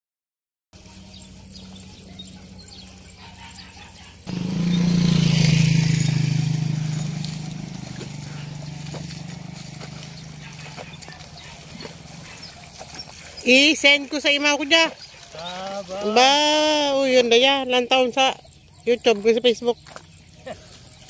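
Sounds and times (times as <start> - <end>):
small engine droning: 0.8 - 17.6.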